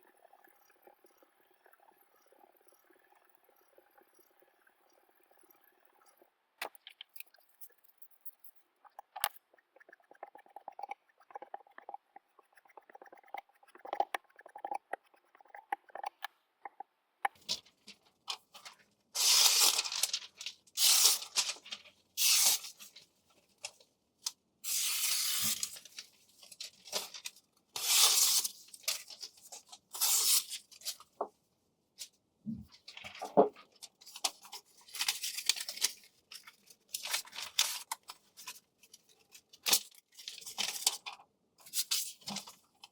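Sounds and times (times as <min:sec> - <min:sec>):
light ticks and scratches: 0:00.0 - 0:24.4, 0:32.0 - 0:42.9.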